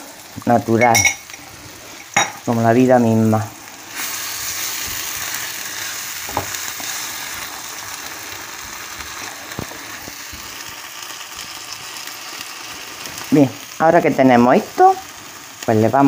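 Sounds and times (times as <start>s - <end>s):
tomato sizzling in a frying pan: 0.0s - 16.0s.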